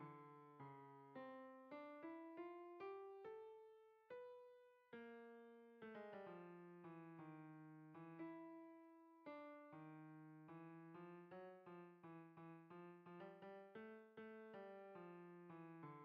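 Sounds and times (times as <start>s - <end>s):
quiet piano music: 0.0s - 16.0s.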